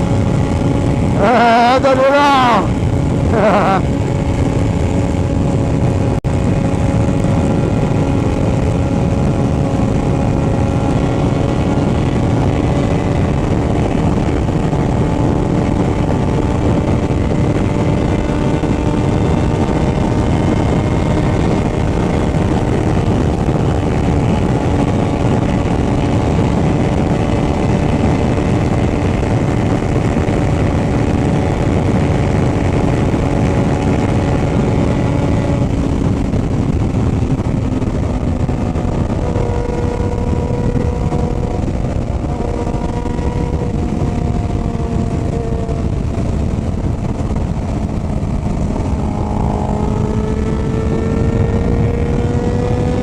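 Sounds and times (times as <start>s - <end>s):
motorcycle engine cruising: 0.0s - 53.0s.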